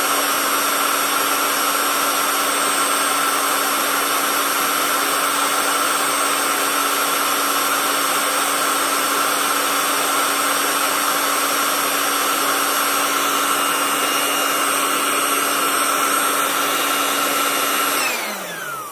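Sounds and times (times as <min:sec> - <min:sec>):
electric air pump humming: 0:00.0 - 0:18.9.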